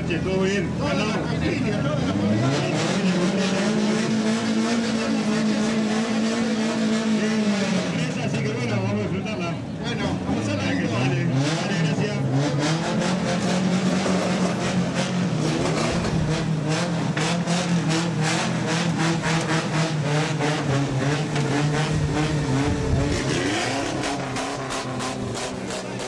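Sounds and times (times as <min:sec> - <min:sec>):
rally car engine running: 0:00.0 - 0:26.0.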